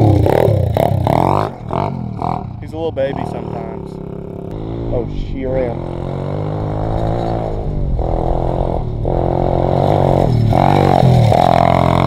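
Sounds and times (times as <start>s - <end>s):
motorbike engine at full throttle: 0.0s - 12.0s.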